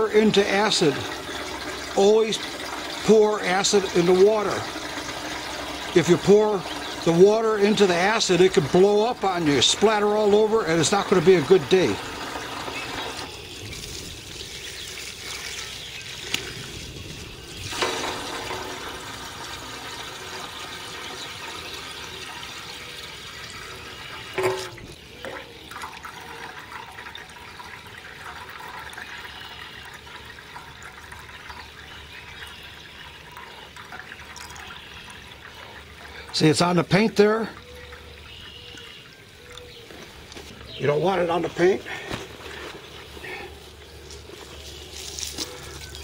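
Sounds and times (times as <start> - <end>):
water gurgling into metal tank: 0.0 - 39.8.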